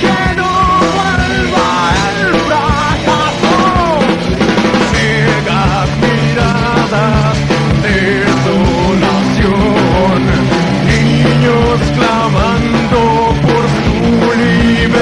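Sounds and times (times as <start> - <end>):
electric guitars and bass: 0.0 - 15.0
fast drumming: 0.0 - 15.0.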